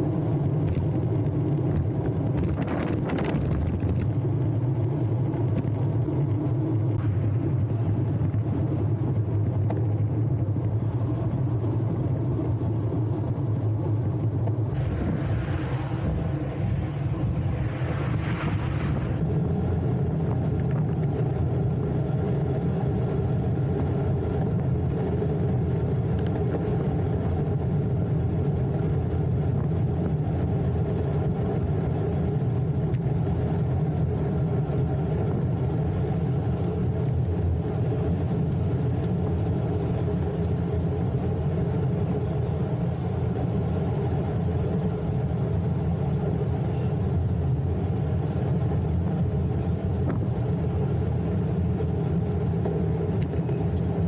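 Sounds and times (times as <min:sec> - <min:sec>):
bicycle tyre road noise: 0:00.0 - 0:54.0
wind rumble on microphone: 0:00.0 - 0:54.0.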